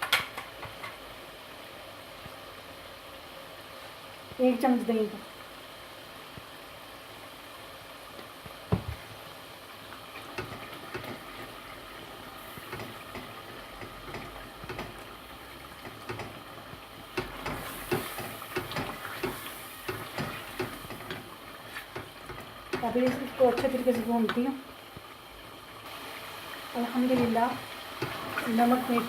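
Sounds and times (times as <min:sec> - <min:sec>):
low sizzle: 0:00.0 - 0:29.0.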